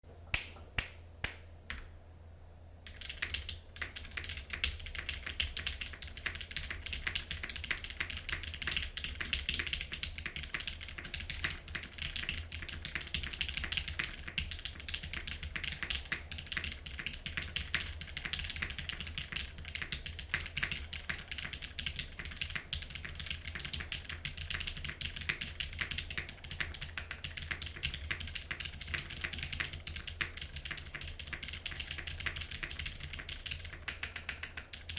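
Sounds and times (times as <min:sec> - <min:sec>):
mechanical keyboard typing: 0:02.9 - 0:34.9.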